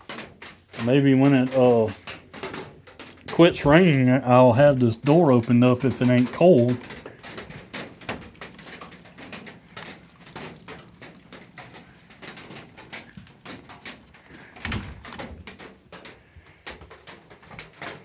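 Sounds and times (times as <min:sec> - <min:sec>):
rain dripping: 0:00.0 - 0:18.0.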